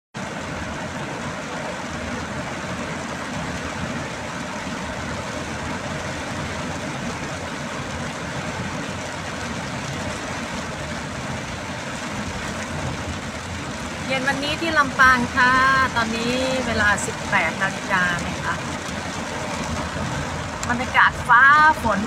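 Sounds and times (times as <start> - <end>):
heavy rain on car roof: 0.2 - 22.0
tyres on flooded road: 0.2 - 22.0.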